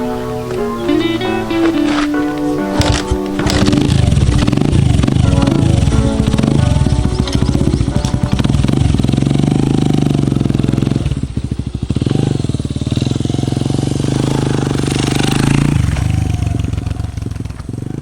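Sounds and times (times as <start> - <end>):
moped engine running: 0.3 - 18.0.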